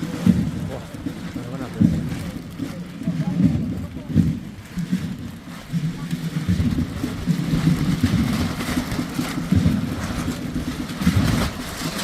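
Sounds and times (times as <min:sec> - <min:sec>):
rain falling: 0:00.0 - 0:12.0
wind buffeting microphone: 0:00.0 - 0:12.0.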